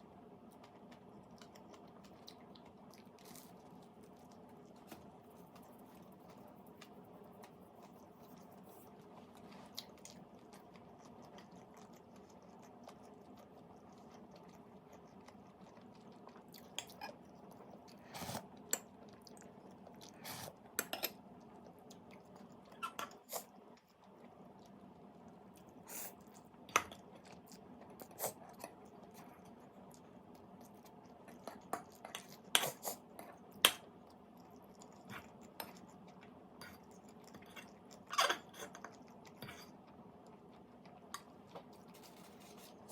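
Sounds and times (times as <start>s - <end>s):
steady low hum: 0.0s - 42.9s
person chewing and crunching food: 0.2s - 42.9s.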